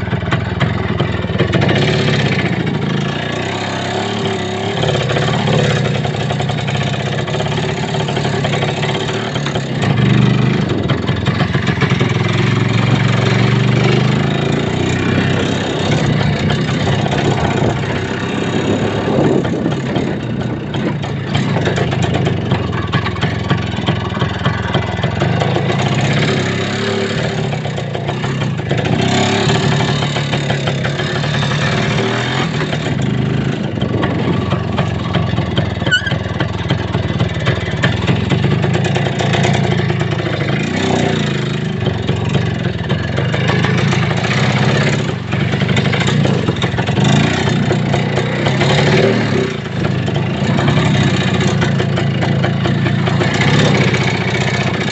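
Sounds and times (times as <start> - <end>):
vehicle engine running: 0.0 - 54.9
vehicle knocks and rattles: 4.6 - 54.9.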